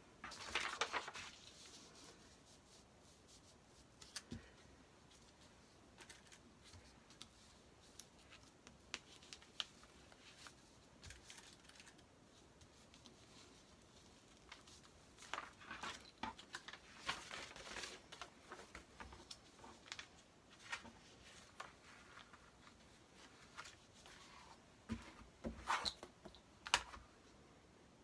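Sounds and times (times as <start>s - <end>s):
paper and fabric rustling: 0.1s - 27.1s.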